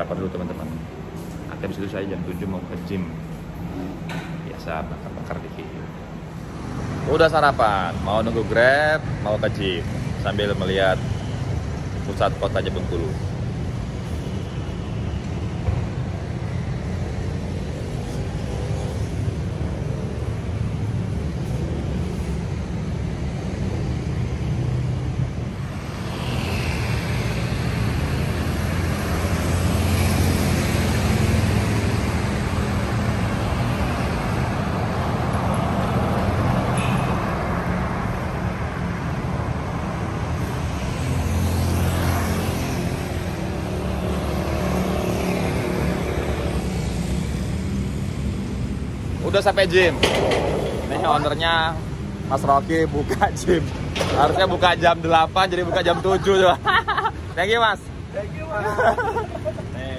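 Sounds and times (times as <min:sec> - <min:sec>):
cars and scooters passing: 0:00.0 - 0:59.9.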